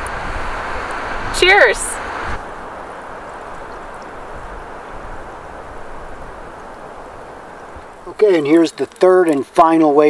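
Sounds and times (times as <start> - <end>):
wind on microphone: 0.0 - 8.1.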